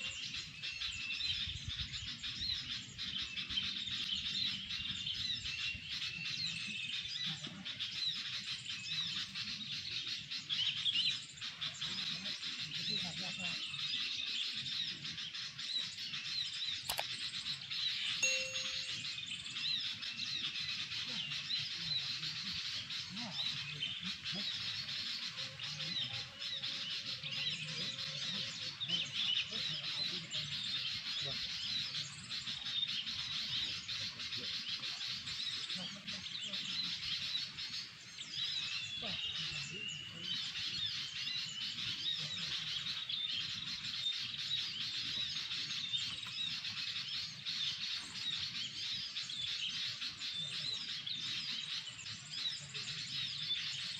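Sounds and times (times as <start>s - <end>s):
fast bird song: 0.0s - 53.9s.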